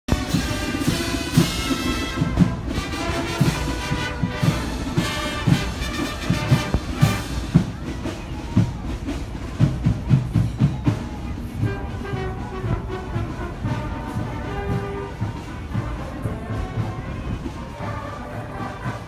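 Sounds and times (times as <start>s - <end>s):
brass band horns: 0.1s - 10.2s, 10.8s - 19.0s
steady drum beat: 0.1s - 19.0s.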